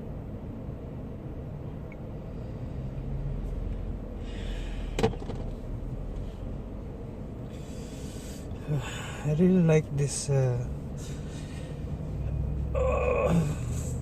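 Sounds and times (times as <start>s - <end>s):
car engine rumble inside cabin: 0.0s - 14.0s.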